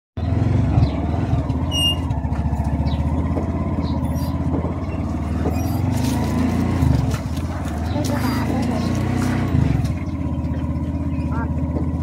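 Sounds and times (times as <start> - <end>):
vehicle engine running: 0.2 - 12.0.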